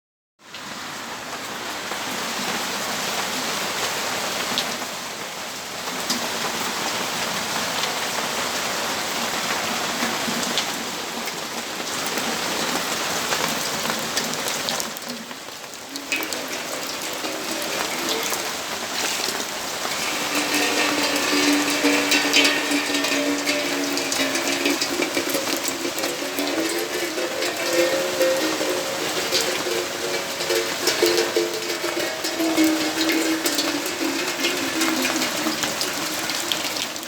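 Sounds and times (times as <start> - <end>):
rain hiss: 0.5 - 37.0
raindrops tapping on hard surfaces: 2.8 - 37.0.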